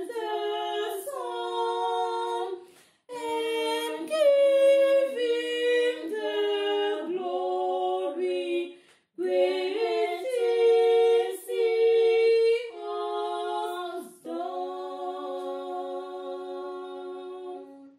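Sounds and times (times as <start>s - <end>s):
women singing in harmony: 0.0s - 17.9s.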